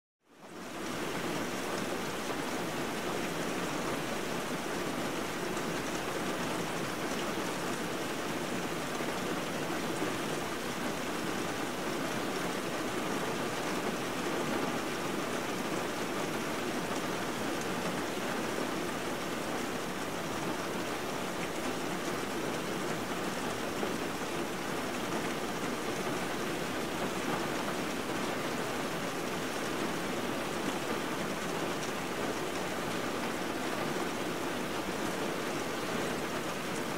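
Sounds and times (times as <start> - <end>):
steady rain hiss: 0.3 - 36.9.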